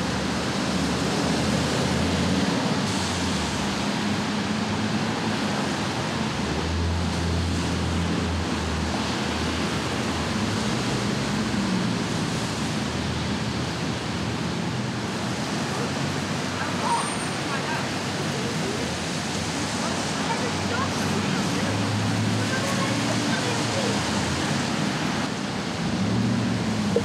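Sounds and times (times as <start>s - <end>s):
traffic on wet streets: 0.0s - 27.0s
rain hiss: 0.1s - 27.0s.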